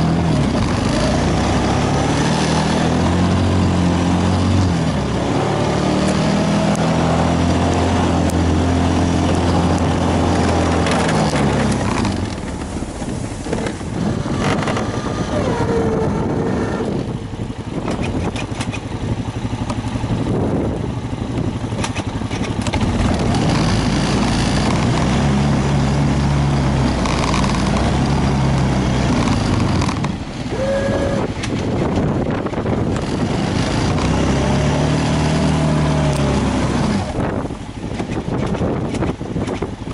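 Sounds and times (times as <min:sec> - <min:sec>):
motor engine running: 0:00.0 - 0:39.9
noisy rush: 0:00.0 - 0:39.9.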